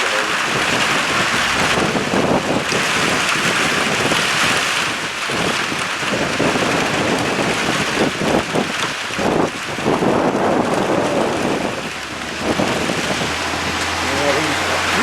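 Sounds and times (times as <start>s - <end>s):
rain: 0.0s - 15.0s
wind blowing on microphone: 0.0s - 15.0s.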